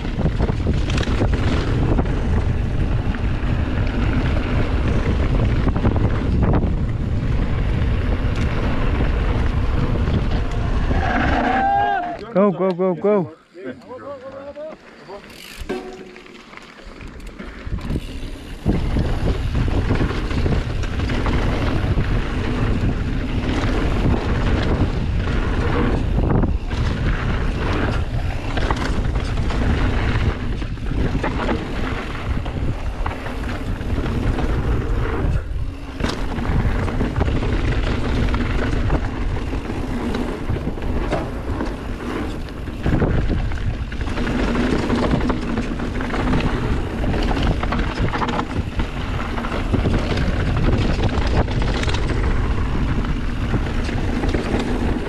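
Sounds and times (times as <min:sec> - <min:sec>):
wind on microphone: 0:00.0 - 0:11.9, 0:17.6 - 0:55.0
bike rumbling and rattling: 0:00.0 - 0:55.0.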